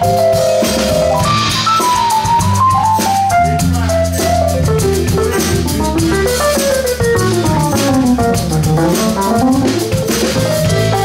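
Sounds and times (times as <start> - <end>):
bass: 0.0 - 11.0
drum kit: 0.0 - 11.0
lead instrument melody: 0.0 - 11.0.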